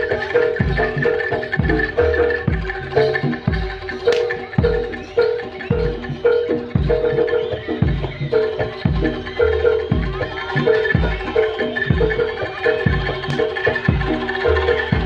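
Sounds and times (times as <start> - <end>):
metal mallet instruments: 0.0 - 15.0.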